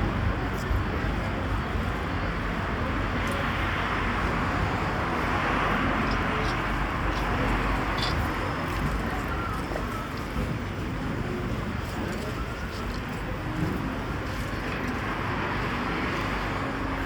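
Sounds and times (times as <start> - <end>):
street traffic hiss and rumble: 0.0 - 17.0.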